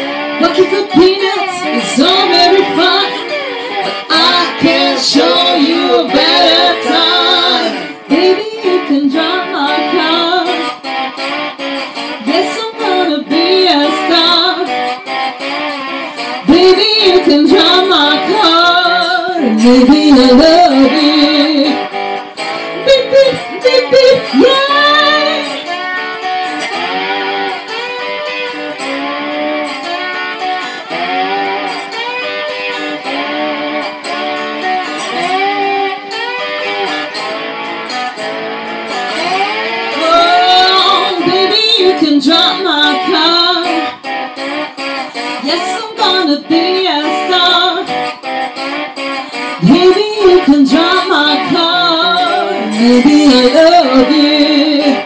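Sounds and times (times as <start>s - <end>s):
electric lap steel guitar sliding: 0.0s - 55.0s.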